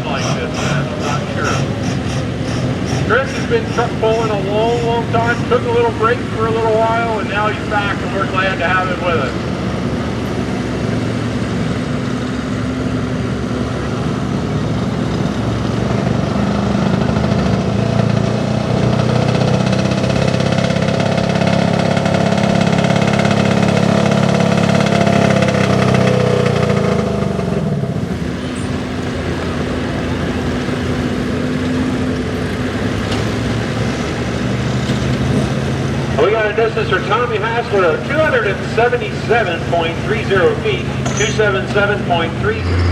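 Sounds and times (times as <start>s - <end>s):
pickup truck engine at high revs: 0.0s - 42.9s.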